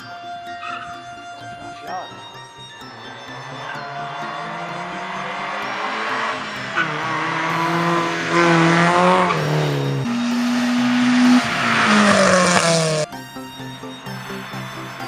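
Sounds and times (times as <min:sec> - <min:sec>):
background music: 0:00.0 - 0:15.0
rally car engines revving: 0:00.0 - 0:15.0.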